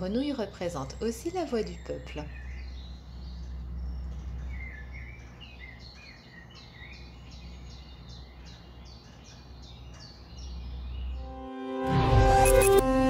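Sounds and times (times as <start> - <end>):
steady low rumble: 0.0 - 11.2
small birds chirping: 0.0 - 11.3.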